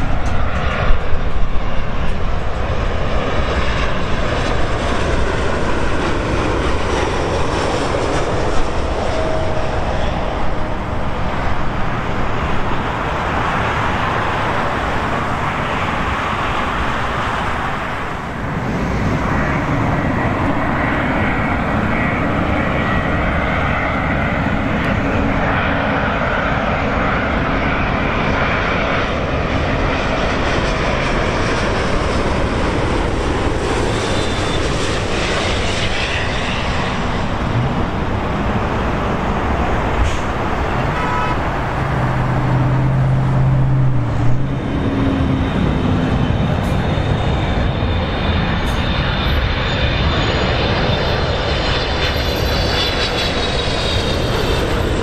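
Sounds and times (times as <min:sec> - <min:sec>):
jet engines of landing airliner: 0:00.0 - 0:55.0.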